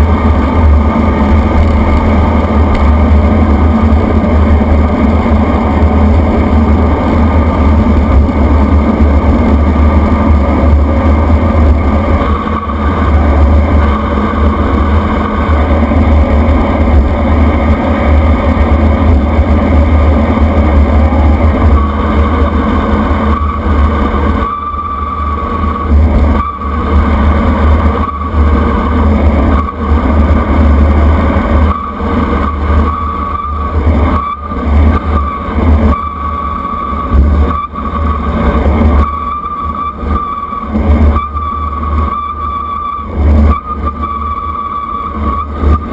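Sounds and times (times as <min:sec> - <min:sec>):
thin steady whine: 0:00.0 - 0:45.9
wind roar and buffeting: 0:00.0 - 0:45.9.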